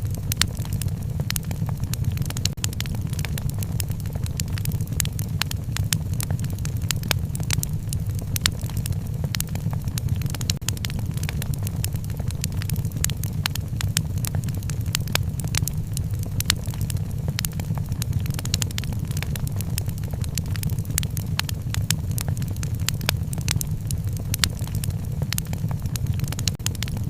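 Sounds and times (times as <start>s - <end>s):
low fire rumble: 0.0s - 27.0s
wood fire crackling: 0.0s - 27.0s.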